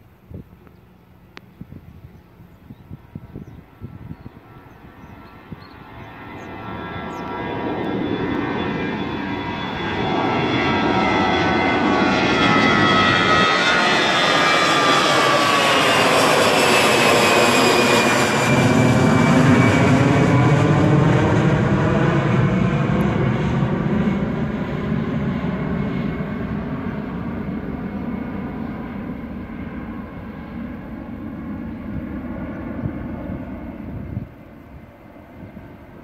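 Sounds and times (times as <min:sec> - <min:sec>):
jet engines roaring on climb: 0:00.0 - 0:36.0.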